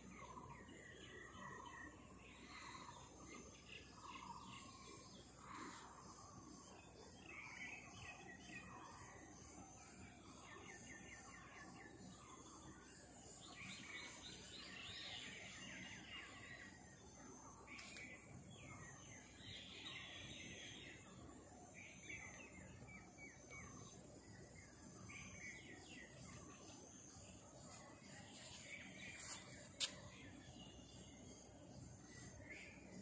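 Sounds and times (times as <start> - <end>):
birds chirping and trilling: 0.0 - 33.0.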